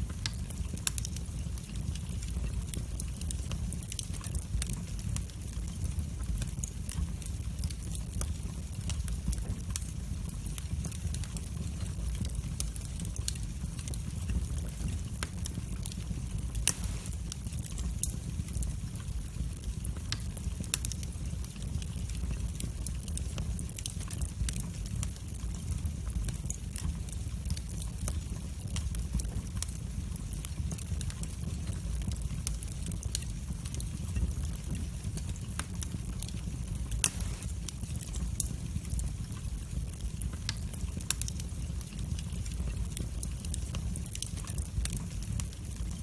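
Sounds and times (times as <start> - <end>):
wood fire crackling and popping: 0.0 - 46.0.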